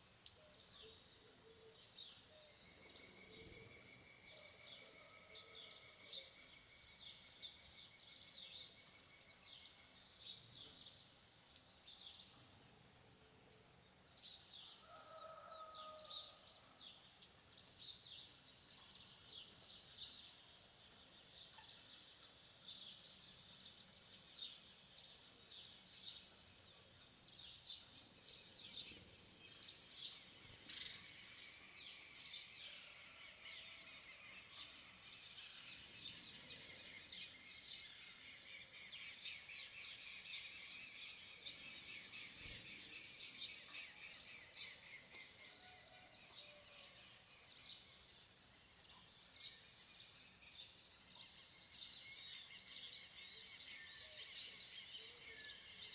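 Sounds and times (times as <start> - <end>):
outdoor background hiss: 0.0 - 55.9.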